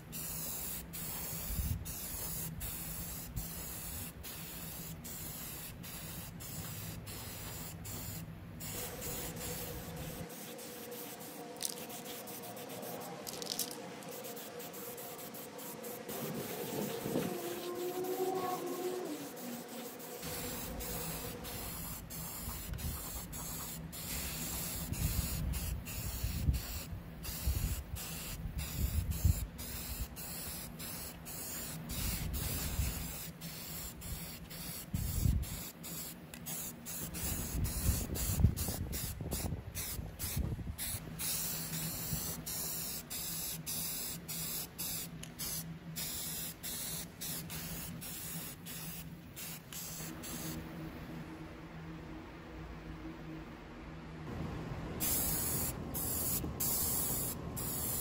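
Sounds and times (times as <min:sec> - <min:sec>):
spray paint can hissing: 0:00.0 - 0:18.0, 0:19.1 - 0:50.6, 0:55.0 - 0:58.0.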